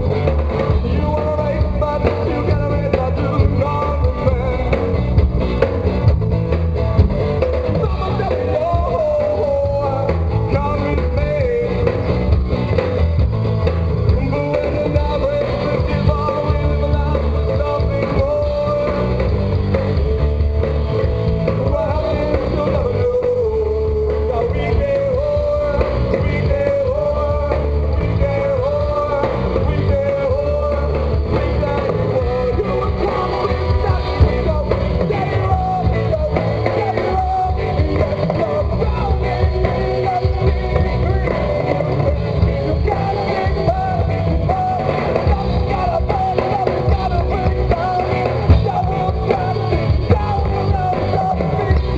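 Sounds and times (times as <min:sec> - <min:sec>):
person singing: 0:00.0 - 0:05.2, 0:07.7 - 0:12.2, 0:14.0 - 0:20.0, 0:21.2 - 0:51.9
bass guitar: 0:00.0 - 0:51.9
drums: 0:00.0 - 0:51.9
electric guitar: 0:00.0 - 0:51.9.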